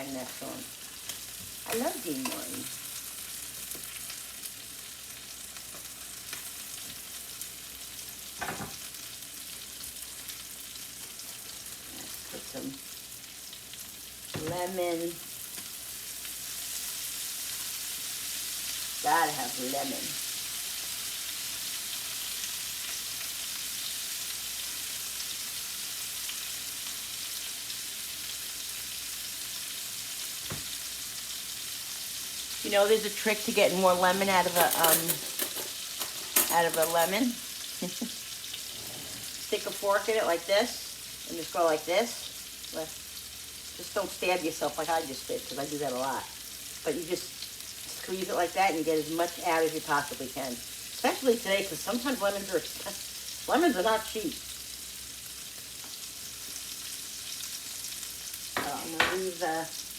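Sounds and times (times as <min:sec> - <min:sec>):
fish sizzling in a pan: 0:00.0 - 0:59.9.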